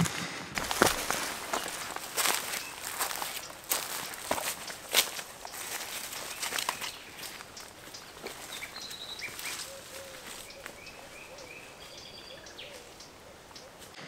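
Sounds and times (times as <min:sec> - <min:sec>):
footsteps on dry leaves: 0:00.0 - 0:13.0
birds calling: 0:00.6 - 0:14.0.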